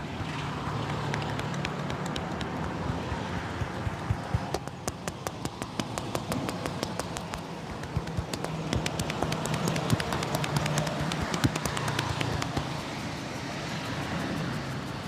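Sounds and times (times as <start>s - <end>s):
street traffic hum: 0.0s - 15.0s
hands slapping in massage: 0.7s - 13.8s.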